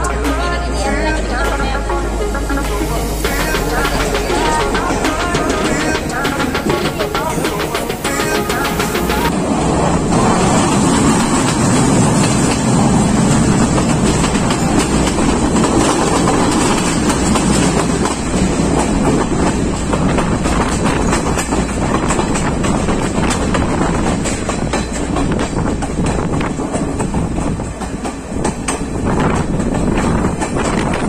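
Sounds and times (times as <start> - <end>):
train wheels clattering over rails: 3.3 - 31.0.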